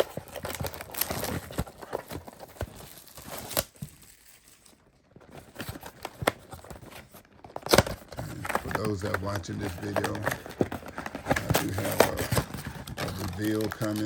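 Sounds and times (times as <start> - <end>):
plastic wrapping crinkling and tearing: 0.0 - 14.0.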